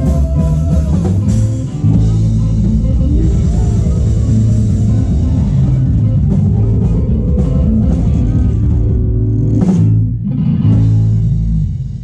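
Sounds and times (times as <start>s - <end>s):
keyboards: 0.0s - 11.0s
guitar: 0.0s - 12.0s
heavy bass line: 0.0s - 12.0s.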